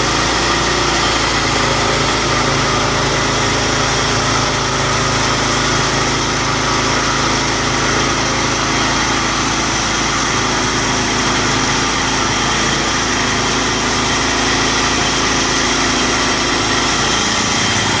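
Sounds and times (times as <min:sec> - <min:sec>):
wood saw machine running: 0:00.0 - 0:18.0.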